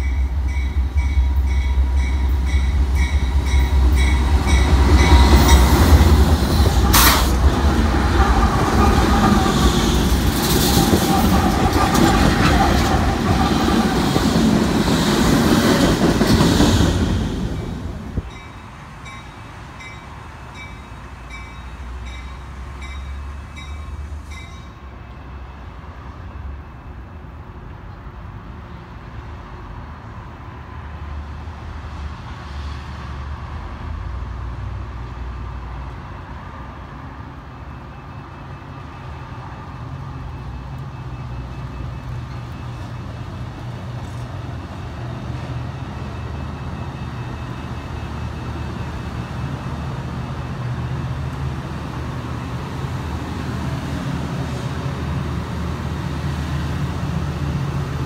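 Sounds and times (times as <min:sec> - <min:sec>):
train diesel drone: 0:00.0 - 0:58.0.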